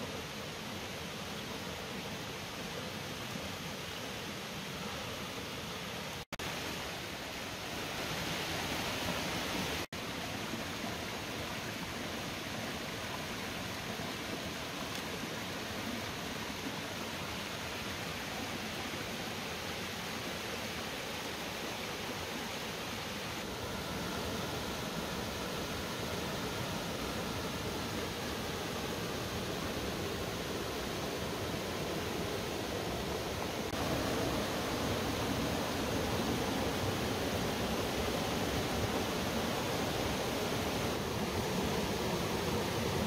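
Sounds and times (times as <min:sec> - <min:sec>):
stream rushing over stones: 0:00.0 - 0:43.0.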